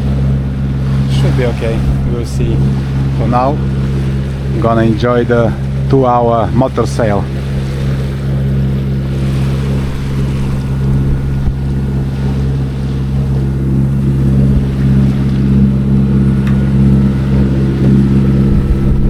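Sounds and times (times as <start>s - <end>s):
boat engine droning: 0.0s - 19.0s
water noise: 0.0s - 19.0s
wind: 0.0s - 19.0s.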